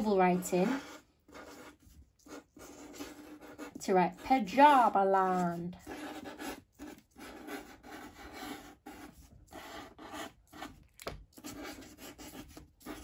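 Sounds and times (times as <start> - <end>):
marker scratching on paper: 0.0 - 13.0.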